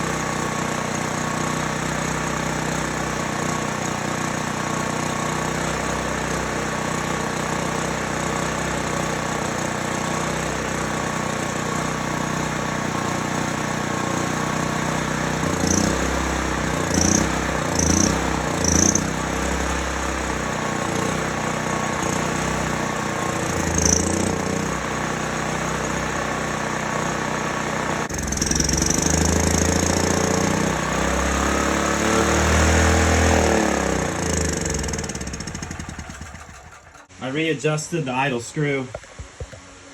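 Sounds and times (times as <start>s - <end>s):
generator engine surging: 0.0s - 38.4s.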